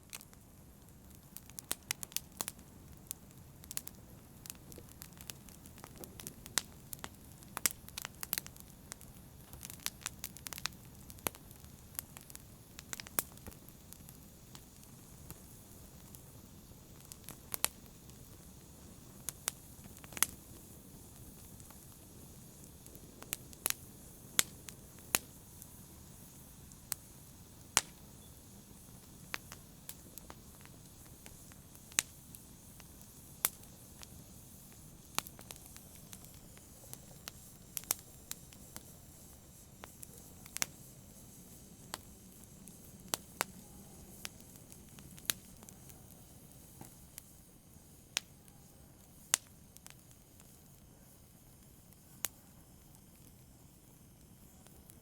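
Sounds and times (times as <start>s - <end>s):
low hiss of burning: 0.0s - 55.0s
wood fire crackling and popping: 0.0s - 55.0s.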